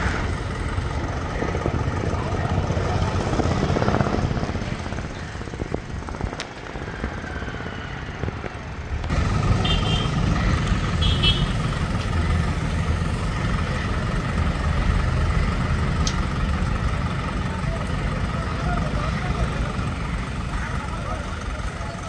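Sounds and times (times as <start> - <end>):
crane diesel engine running: 0.0 - 22.0.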